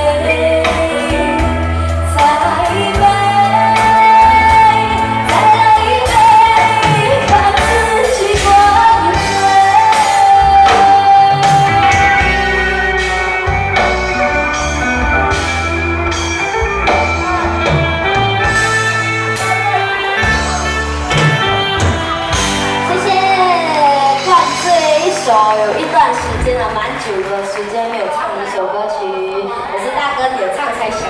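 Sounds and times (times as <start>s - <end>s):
person singing pop song: 0.0s - 13.9s, 16.4s - 27.7s
backing music with bass and drums: 0.0s - 27.0s.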